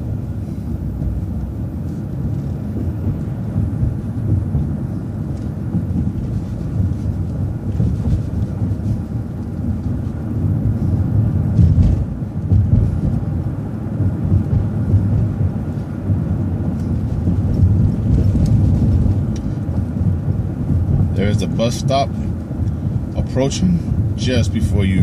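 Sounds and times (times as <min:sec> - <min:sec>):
bus engine and road rumble: 0:00.0 - 0:25.0
heavy bump: 0:00.0 - 0:25.0.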